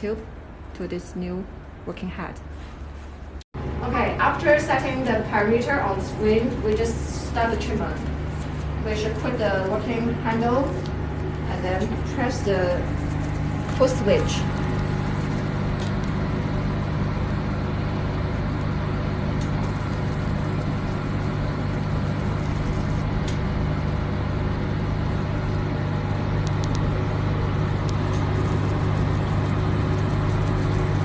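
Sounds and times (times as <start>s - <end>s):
machine humming: 2.4s - 31.0s.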